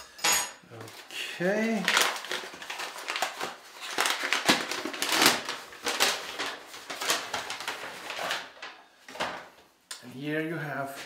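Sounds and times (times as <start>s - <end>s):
packing paper crinkling: 0.7s - 9.6s.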